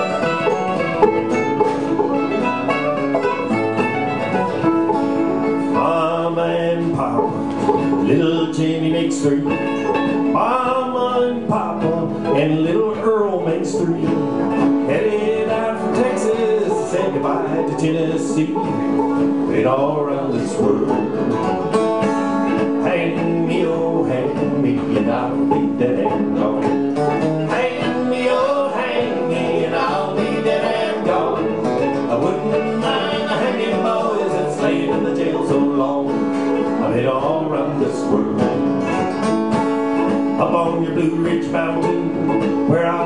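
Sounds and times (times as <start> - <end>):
acoustic guitar: 0.0 - 43.0
banjo: 0.0 - 43.0
mandolin: 0.0 - 43.0.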